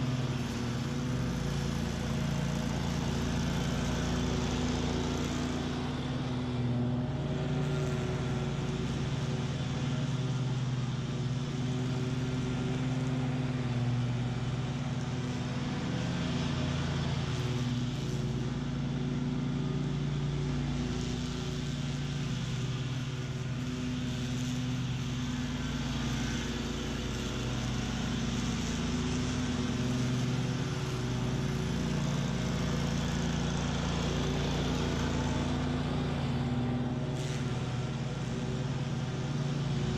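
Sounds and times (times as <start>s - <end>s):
mower engine and blades cutting weeds: 0.0s - 39.9s.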